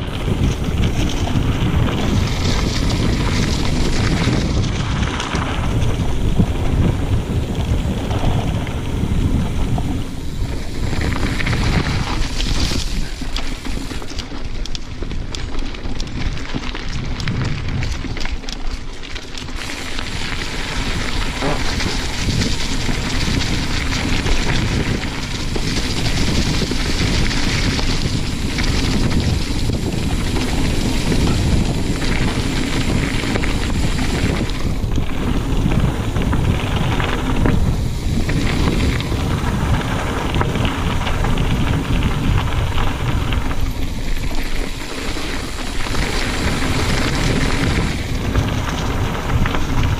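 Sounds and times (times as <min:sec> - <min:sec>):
bike rattling over bumps: 0:00.0 - 0:49.9
tyres crunching over loose stones: 0:00.0 - 0:49.9
wind noise on microphone: 0:00.0 - 0:49.9.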